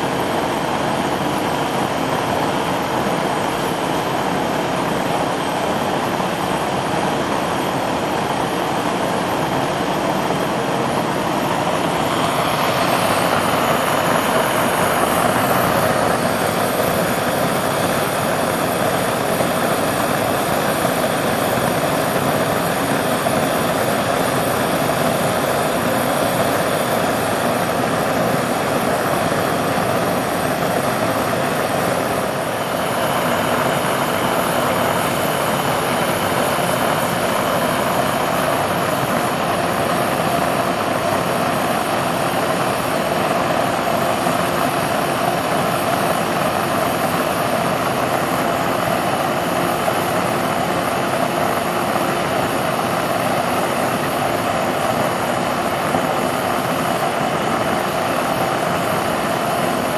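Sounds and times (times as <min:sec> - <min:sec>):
gas burner flame hissing: 0:00.0 - 0:59.9.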